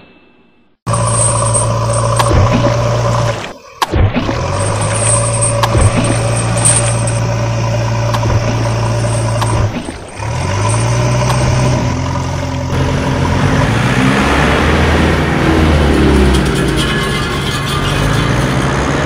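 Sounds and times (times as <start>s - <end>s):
engine running: 0.9s - 19.0s.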